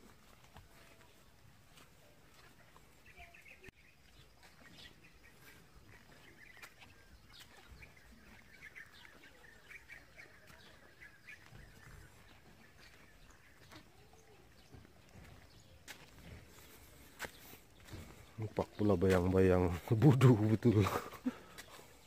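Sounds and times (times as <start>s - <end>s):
faint bird chirping: 0.0s - 22.0s.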